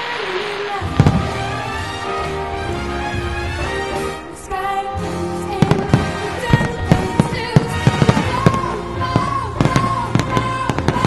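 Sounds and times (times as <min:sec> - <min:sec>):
firework shells bursting: 0:00.0 - 0:03.8, 0:05.6 - 0:11.0
show music: 0:00.0 - 0:11.0.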